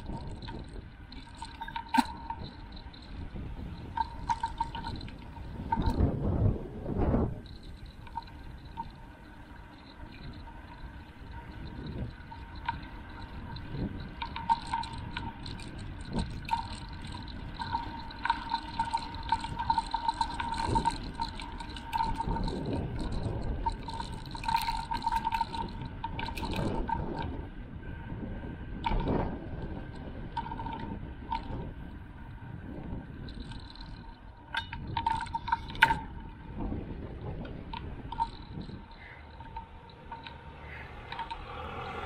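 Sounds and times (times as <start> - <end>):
small rattling clicks: 0.0 - 27.4, 28.8 - 42.0
bicycle road rumble: 0.0 - 42.0
thin steady whine: 0.0 - 42.0
wind on microphone: 0.0 - 42.0.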